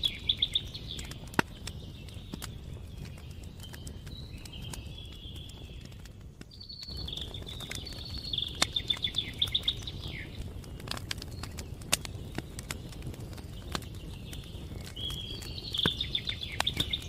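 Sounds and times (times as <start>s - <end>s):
campfire crackling and popping: 0.0s - 17.0s
songbird chirping and trilling: 0.0s - 17.0s.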